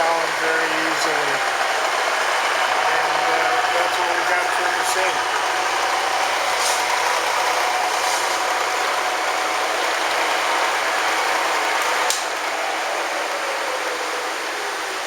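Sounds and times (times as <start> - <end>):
milling machine humming and whining: 0.0 - 15.0.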